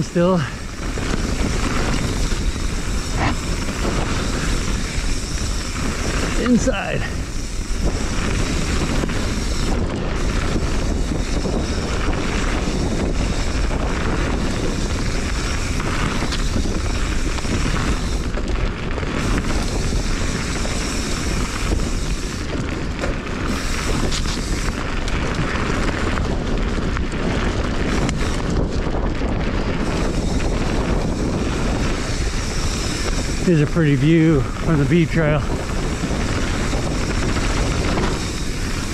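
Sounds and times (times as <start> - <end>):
bike tyres rumbling over trail: 0.0 - 38.9
wind buffeting microphone: 0.0 - 38.9.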